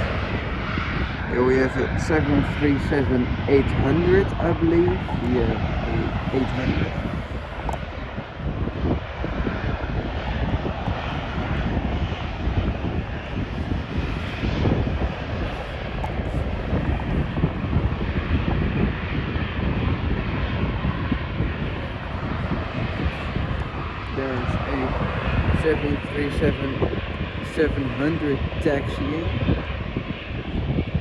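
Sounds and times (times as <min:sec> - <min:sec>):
jet engine roar: 0:00.0 - 0:31.0
wind buffeting microphone: 0:00.0 - 0:31.0.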